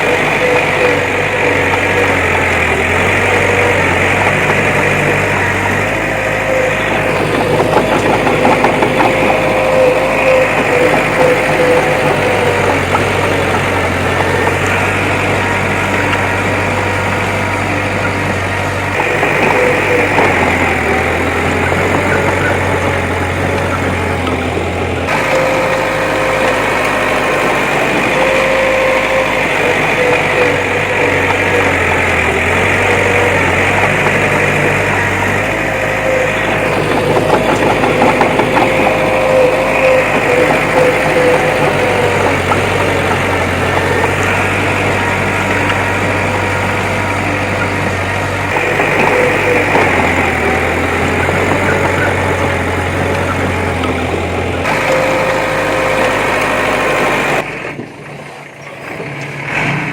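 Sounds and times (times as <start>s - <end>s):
diesel machinery engine whining: 0.0s - 59.9s.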